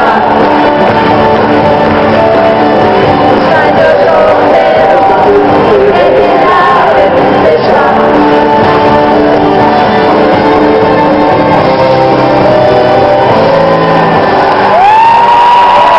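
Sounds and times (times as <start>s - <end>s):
person singing: 0.0s - 14.5s
live band with guitar: 0.0s - 15.9s.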